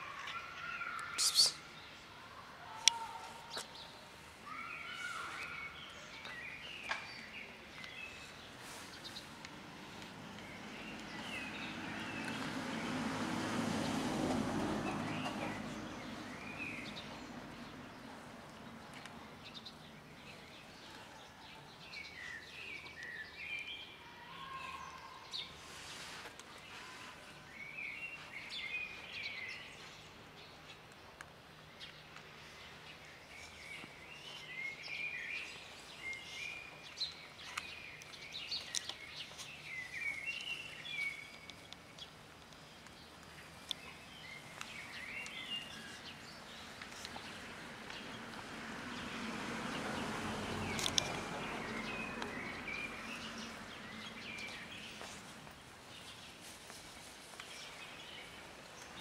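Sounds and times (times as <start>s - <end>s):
small birds chirping: 0.0s - 13.0s, 14.8s - 59.0s.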